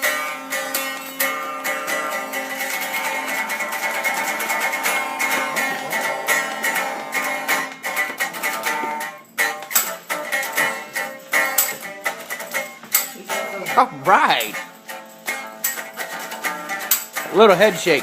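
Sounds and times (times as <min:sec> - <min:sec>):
guitar strumming chords: 0:00.0 - 0:18.0.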